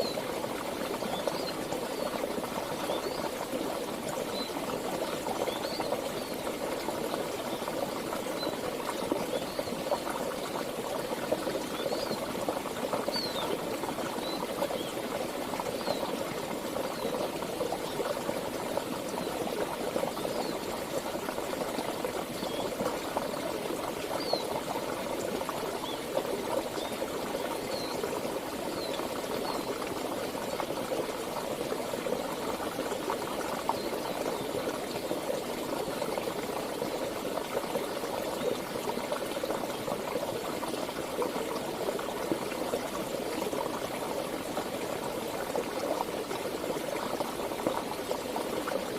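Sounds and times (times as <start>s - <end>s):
stream water babbling: 0.0s - 48.9s.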